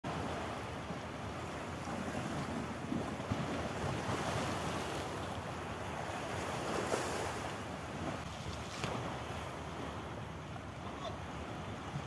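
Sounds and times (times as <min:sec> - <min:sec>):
sea waves washing ashore: 0:00.0 - 0:12.0
wind rumbling on microphone: 0:00.1 - 0:12.0.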